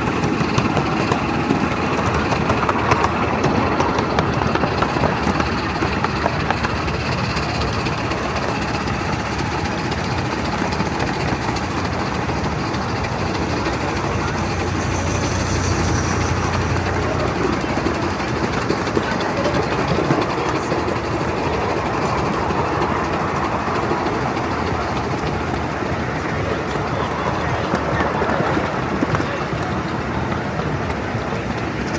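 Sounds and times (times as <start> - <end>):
miniature steam train running: 0.0 - 31.9.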